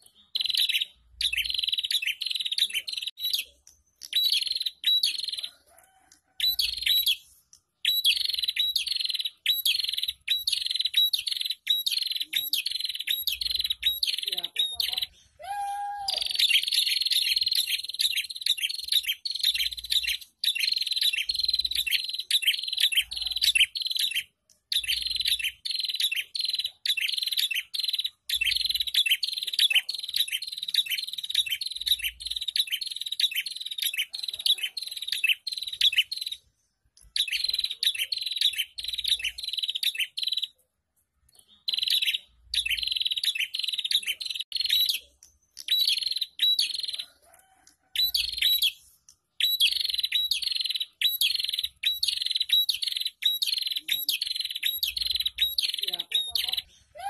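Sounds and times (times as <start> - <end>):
bird chattering chirps: 0.0 - 5.6, 6.4 - 15.4, 16.2 - 40.6, 41.3 - 47.1, 48.0 - 57.0.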